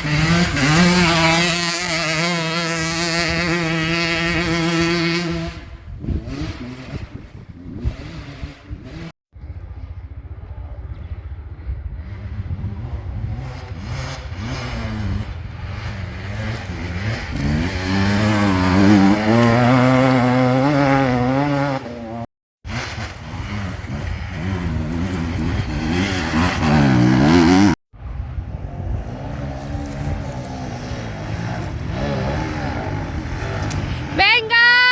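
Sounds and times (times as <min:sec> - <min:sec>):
motorcycle engine revving: 0:00.0 - 0:10.5, 0:11.4 - 0:34.4.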